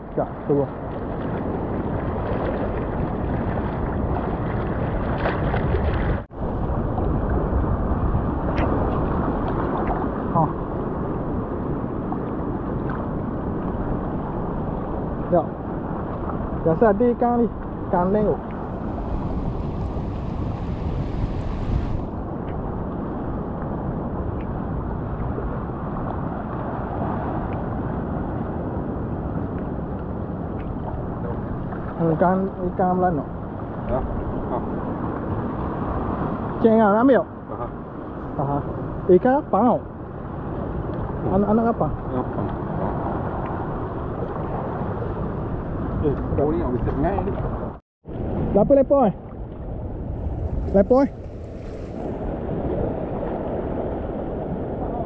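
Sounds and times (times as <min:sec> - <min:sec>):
surf washing onto beach: 0:00.0 - 0:55.0
wind buffeting microphone: 0:00.0 - 0:55.0.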